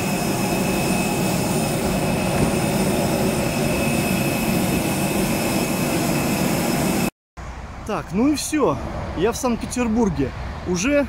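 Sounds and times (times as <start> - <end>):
jet aircraft roar with high whine: 0.0 - 11.0.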